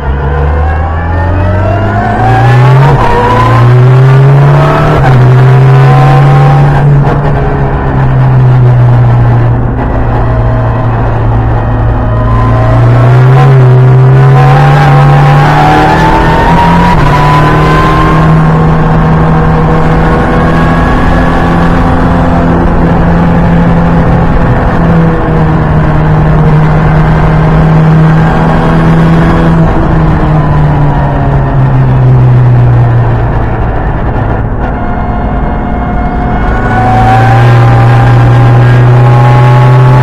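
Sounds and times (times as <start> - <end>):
car engine at high revs: 0.0 - 40.0.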